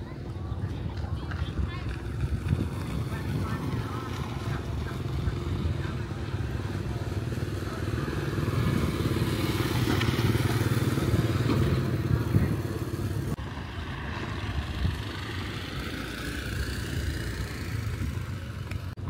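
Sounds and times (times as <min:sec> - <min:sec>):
small motorcycle engine running: 0:00.1 - 0:19.0.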